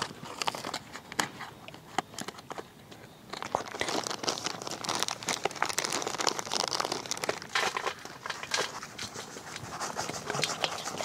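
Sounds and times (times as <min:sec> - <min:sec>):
plastic packet crinkling: 0:00.0 - 0:01.2, 0:03.3 - 0:11.0.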